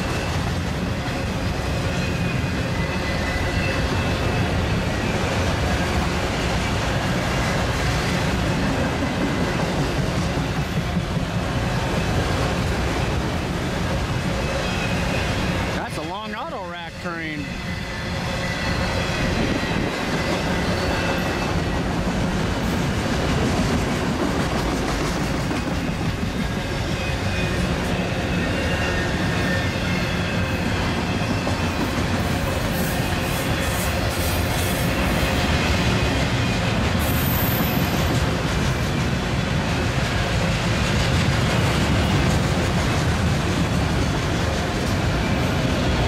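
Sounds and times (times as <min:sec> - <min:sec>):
freight train rolling past: 0:00.0 - 0:46.0.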